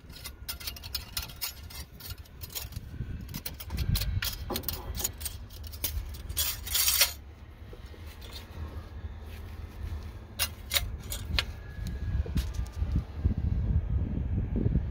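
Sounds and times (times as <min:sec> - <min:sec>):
wind rumble on microphone: 0:00.0 - 0:14.9.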